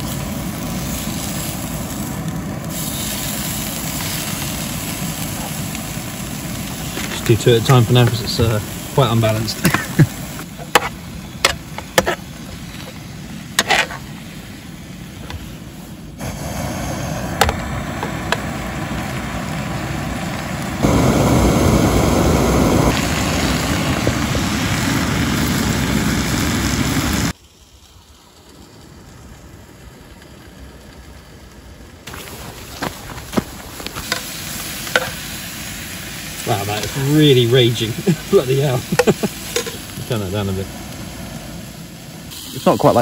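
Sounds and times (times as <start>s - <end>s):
quiet outdoor background: 0.0s - 25.7s, 26.3s - 43.0s
bacon sizzling in a pan: 0.0s - 28.7s, 32.1s - 43.0s
gas burner flame roaring: 0.0s - 43.0s.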